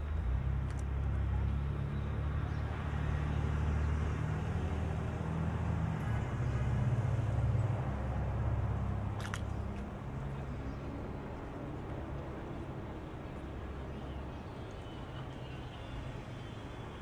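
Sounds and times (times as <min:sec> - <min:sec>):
street noise hiss: 0:00.0 - 0:17.0
vehicle engines rumbling: 0:00.0 - 0:17.0.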